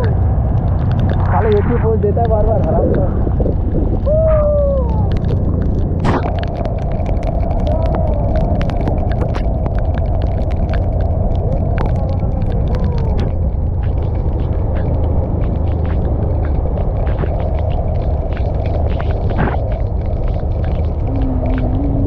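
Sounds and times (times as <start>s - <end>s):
wind and engine rumble: 0.0s - 22.0s.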